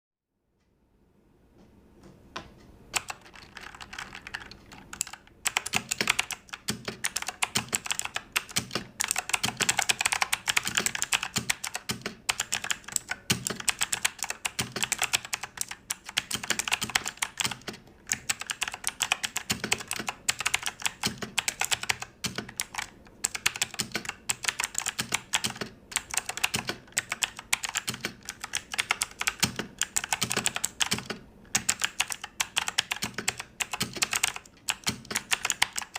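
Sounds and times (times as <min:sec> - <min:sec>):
fast mechanical keyboard typing: 0:02.9 - 0:35.9.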